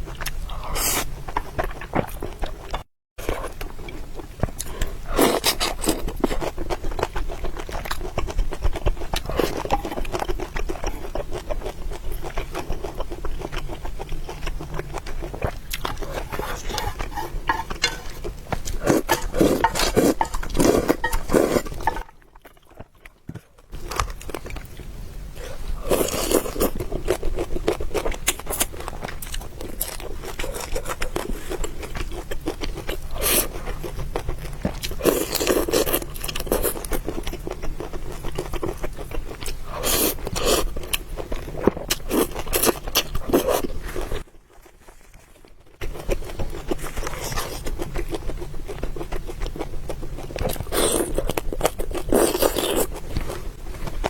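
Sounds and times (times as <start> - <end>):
chewing and biting: 0.0 - 54.0.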